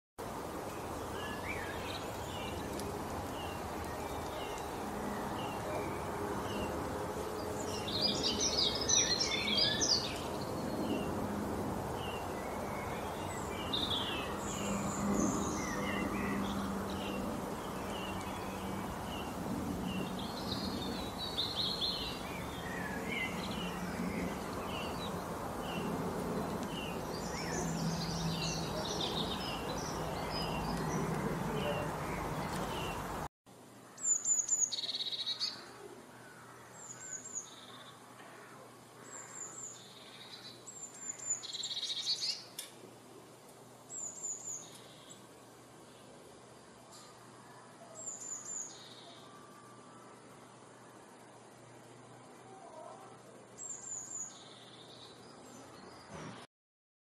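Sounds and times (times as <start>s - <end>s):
low background noise: 0.2s - 56.5s
small birds chirping: 0.3s - 56.5s.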